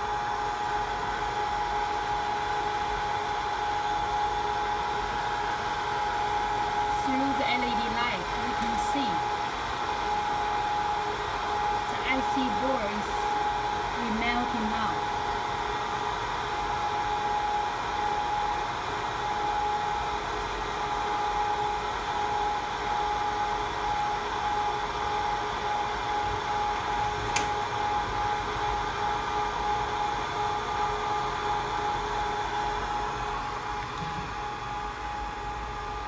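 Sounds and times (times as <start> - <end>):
hot-air blower whirring: 0.0 - 36.0.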